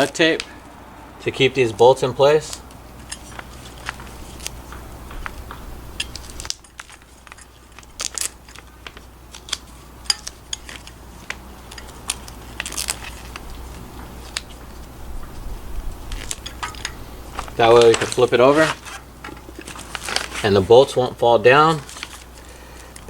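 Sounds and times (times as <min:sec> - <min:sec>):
duct tape crinkling: 0:02.3 - 0:23.0.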